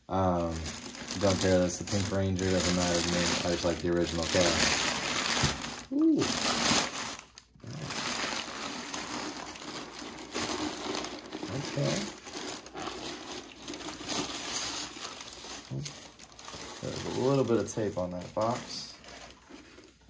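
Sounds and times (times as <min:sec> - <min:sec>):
tissue paper crinkling: 0:00.1 - 0:20.0.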